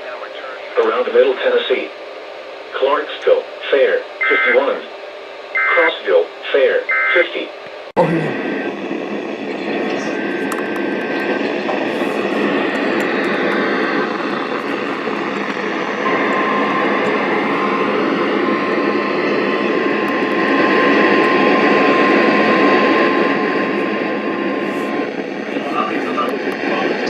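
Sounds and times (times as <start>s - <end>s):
radio static hiss: 0.0s - 2.0s, 2.7s - 4.9s, 5.6s - 27.0s.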